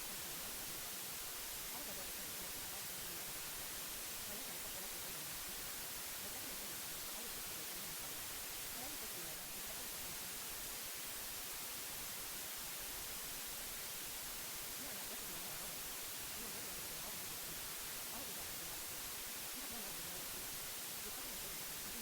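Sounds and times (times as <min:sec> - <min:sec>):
quiet spoken voice: 0:00.0 - 0:10.8, 0:14.6 - 0:22.0
white noise hiss: 0:00.0 - 0:22.0.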